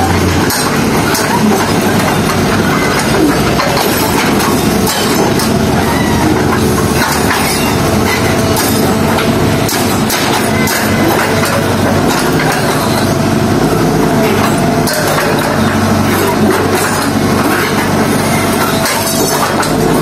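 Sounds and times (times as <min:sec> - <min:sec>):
diesel engine running under load: 0:00.0 - 0:20.0
grinding and crunching of road surface: 0:00.0 - 0:20.0.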